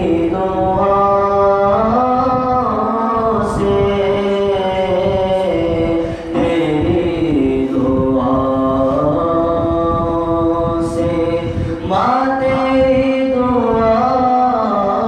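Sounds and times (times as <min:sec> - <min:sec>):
man singing a cappella: 0:00.0 - 0:15.0.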